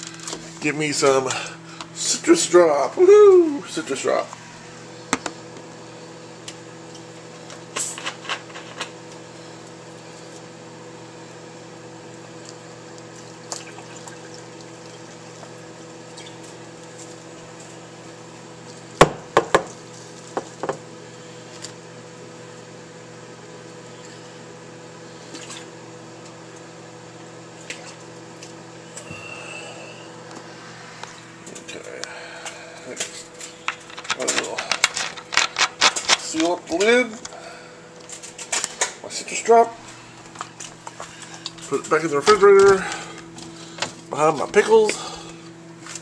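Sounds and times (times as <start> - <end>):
microwave oven humming: 0.0 - 46.0.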